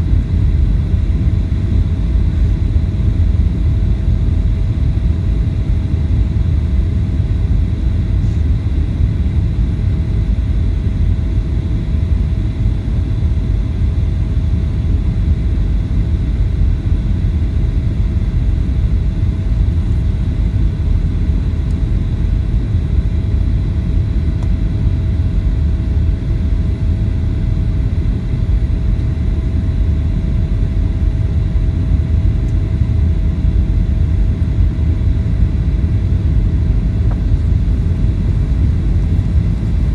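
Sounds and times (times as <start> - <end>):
aircraft cabin roar: 0.0 - 39.9
faint steady whine: 0.0 - 39.9.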